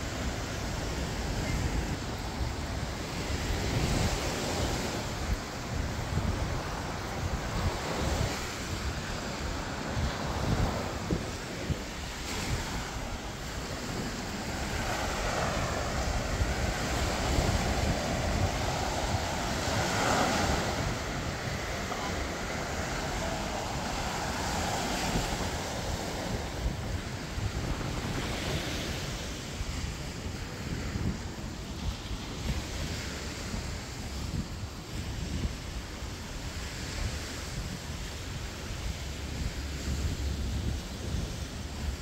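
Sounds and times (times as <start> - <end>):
small waves washing on sand: 0.0 - 42.0
wind buffeting microphone: 0.0 - 42.0.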